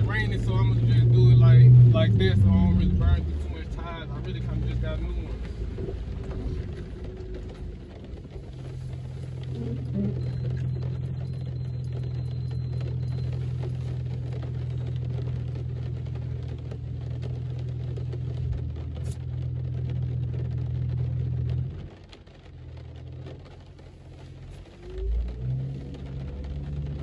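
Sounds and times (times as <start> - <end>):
car engine drone inside cabin: 0.0 - 27.0.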